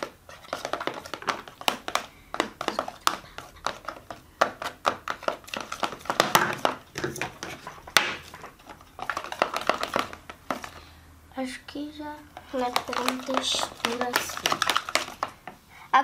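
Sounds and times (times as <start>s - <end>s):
slime stirring clicks and taps: 0.0s - 10.8s, 12.3s - 15.6s.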